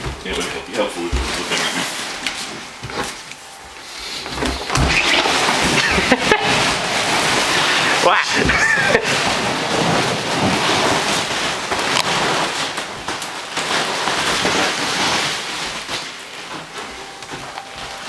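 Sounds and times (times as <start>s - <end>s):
vinyl ball crackling rustle: 0.0s - 18.0s.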